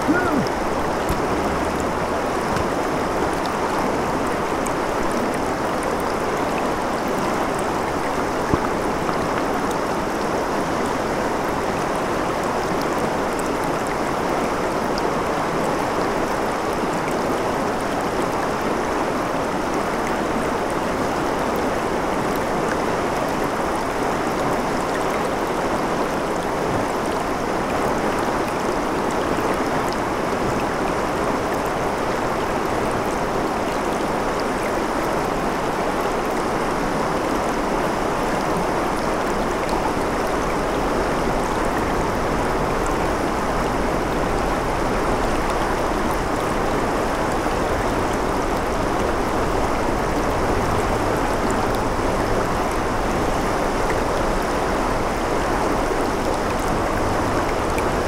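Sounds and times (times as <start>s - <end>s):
river babbling over rocks: 0.0s - 58.0s.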